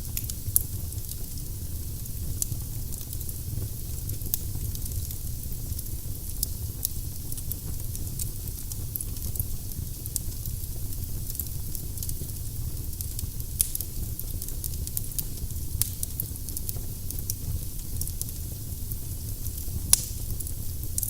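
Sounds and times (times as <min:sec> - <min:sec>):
fire rumbling: 0:00.0 - 0:21.0
wood crackling and popping: 0:00.0 - 0:21.0.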